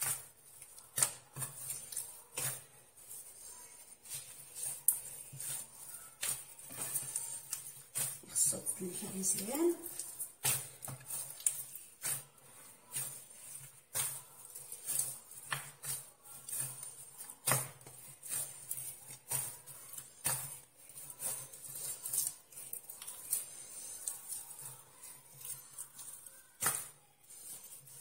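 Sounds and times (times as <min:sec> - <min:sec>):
dough slapping in clay dish: 0:00.0 - 0:28.0.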